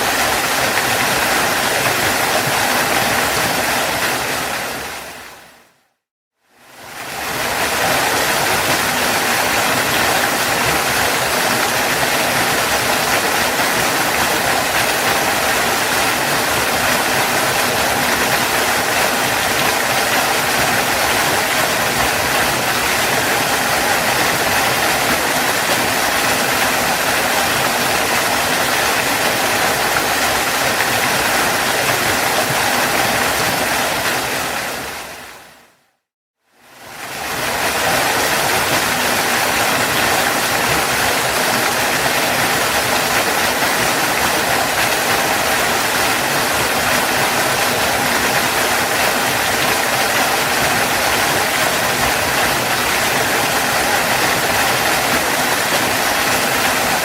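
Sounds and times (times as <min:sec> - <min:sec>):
waterfall rushing: 0:00.0 - 0:05.8, 0:06.7 - 0:35.7, 0:36.7 - 0:57.0.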